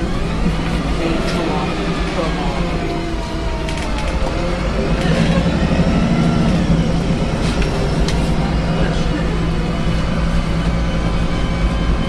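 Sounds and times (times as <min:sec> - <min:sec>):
bus engine and road noise drone: 0:00.0 - 0:12.0.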